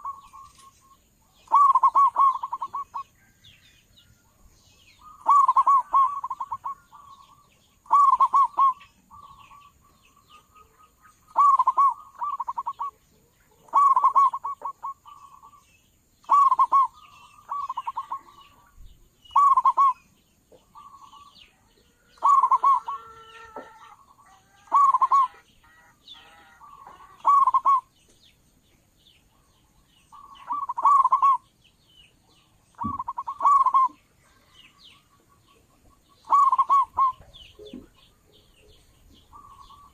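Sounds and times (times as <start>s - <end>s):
dove cooing: 0.0s - 3.1s, 5.0s - 15.6s, 16.2s - 18.7s, 19.3s - 27.9s, 30.1s - 31.5s, 32.7s - 39.9s
small birds chirping: 0.0s - 39.9s.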